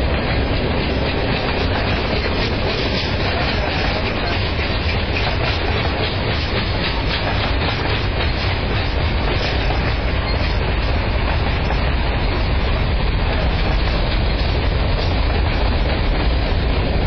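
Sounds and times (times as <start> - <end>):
train wheels rumbling on rails: 0.0 - 17.0
wheels clacking over rail joints: 0.0 - 17.0.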